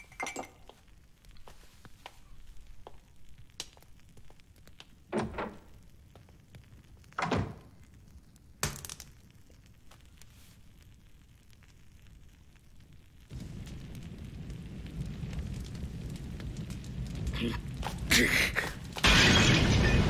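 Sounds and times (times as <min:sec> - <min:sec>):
fire crackling in fireplace: 0:00.0 - 0:20.0.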